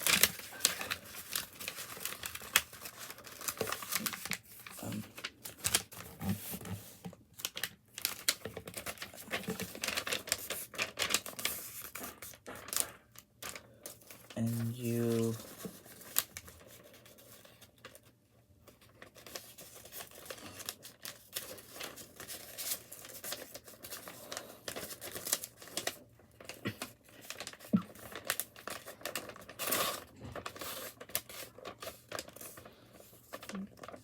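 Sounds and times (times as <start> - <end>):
paper crease crackles: 0.0 - 34.0
paper rustling and crinkling: 0.0 - 34.0.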